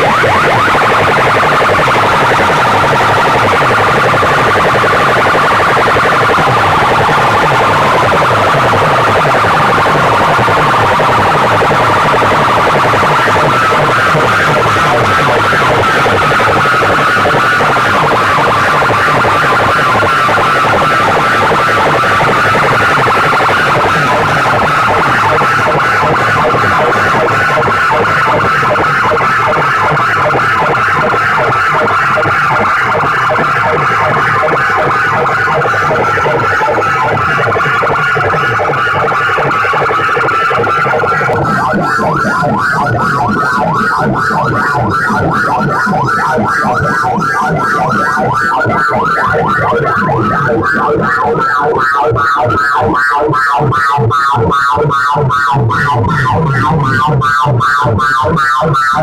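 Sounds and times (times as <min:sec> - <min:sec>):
wailing siren-like sound: 0:00.0 - 0:53.0
distorted music pounding bass: 0:00.0 - 0:59.0.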